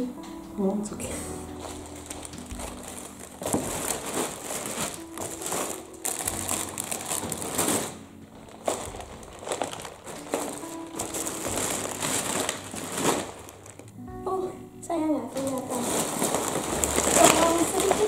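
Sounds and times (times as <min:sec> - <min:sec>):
quiet background music: 0:00.0 - 0:18.0
plastic bags crinkling: 0:01.4 - 0:14.0, 0:15.4 - 0:18.0.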